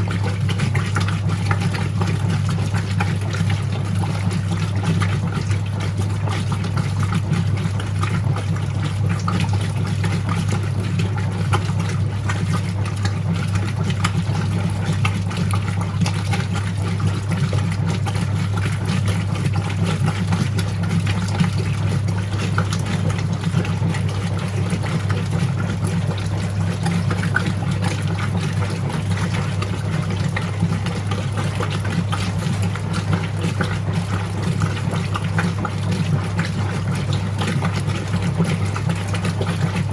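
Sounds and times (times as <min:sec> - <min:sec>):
washing machine motor hum: 0:00.0 - 0:39.9
water sloshing in tub: 0:00.0 - 0:39.9.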